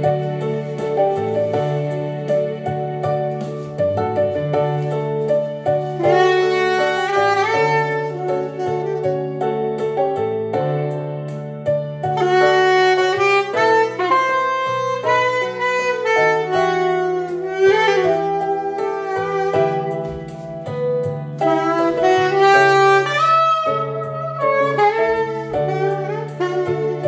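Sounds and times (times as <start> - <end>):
soprano saxophone melody: 0.0 - 27.0.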